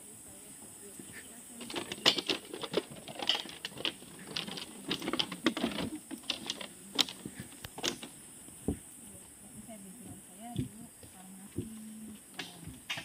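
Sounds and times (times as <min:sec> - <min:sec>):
footsteps on bamboo slats: 0:01.0 - 0:13.0.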